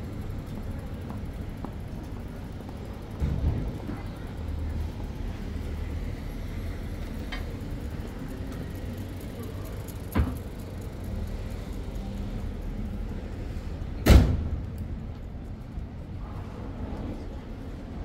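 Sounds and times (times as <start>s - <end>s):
city street ambience: 0.0s - 18.0s.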